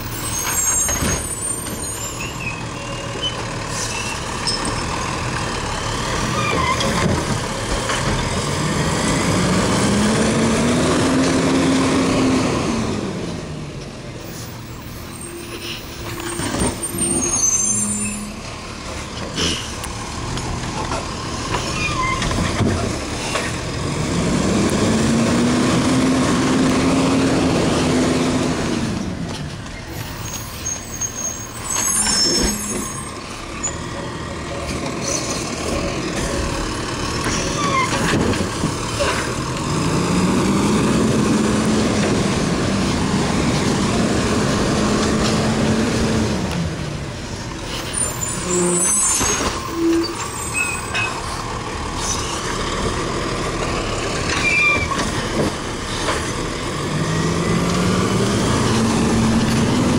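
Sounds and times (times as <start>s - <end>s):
garbage truck engine revving: 5.0s - 13.7s, 16.2s - 47.2s, 47.8s - 59.9s.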